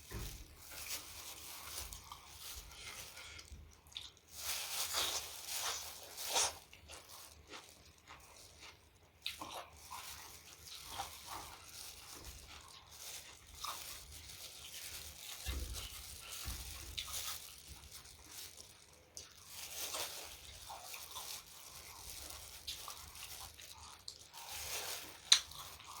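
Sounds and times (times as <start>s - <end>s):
chewing with wet smacks: 1.8s - 26.0s.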